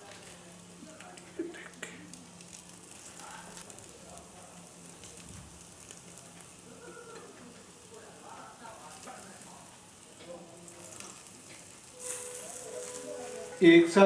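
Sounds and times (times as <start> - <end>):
small crackles: 0.0 - 13.6
chicken sizzling over charcoal: 0.0 - 14.0.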